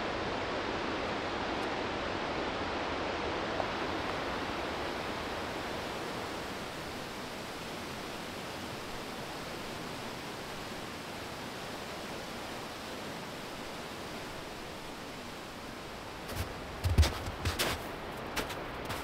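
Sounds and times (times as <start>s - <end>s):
water rushing: 0.1s - 19.0s.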